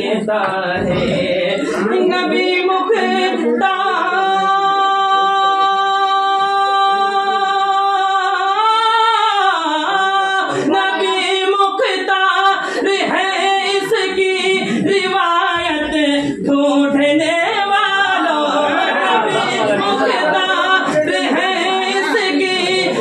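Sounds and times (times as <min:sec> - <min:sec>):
man singing unaccompanied: 0:00.0 - 0:23.0
overlapping background voices: 0:00.0 - 0:23.0.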